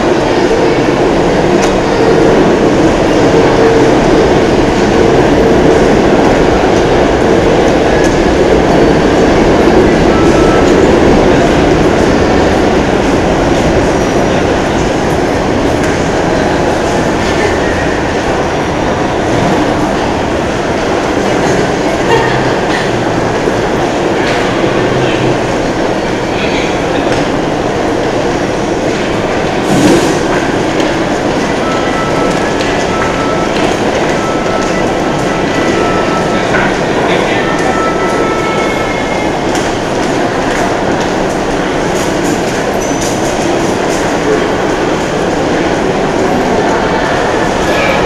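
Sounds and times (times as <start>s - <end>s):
busy city junction rumble: 0.0s - 48.0s.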